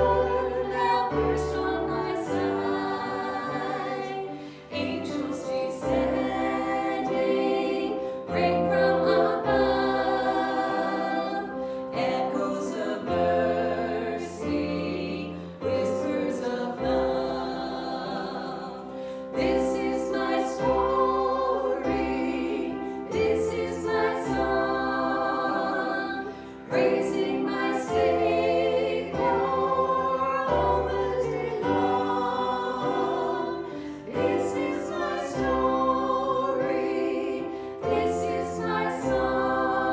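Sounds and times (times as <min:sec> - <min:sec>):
choir singing a slow hymn: 0:00.0 - 0:39.9.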